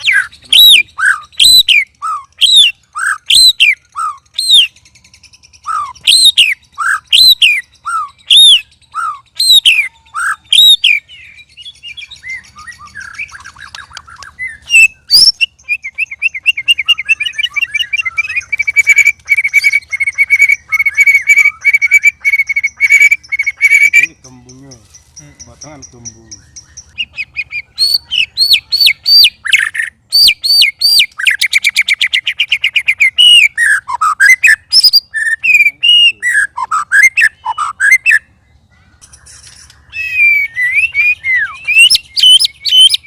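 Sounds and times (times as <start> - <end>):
bird whistling phrases: 0.0 - 24.5, 25.2 - 43.0
bird trilling: 0.0 - 43.0
bird twittering: 0.0 - 43.0.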